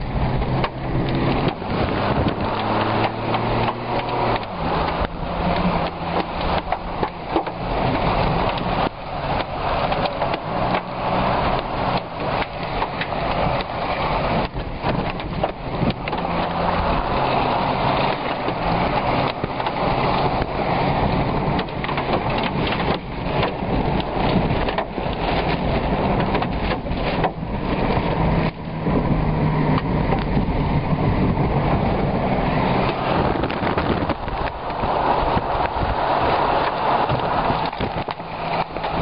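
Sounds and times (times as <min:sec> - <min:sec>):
rain lashing: 0:00.0 - 0:39.0
wind roaring: 0:00.0 - 0:39.0.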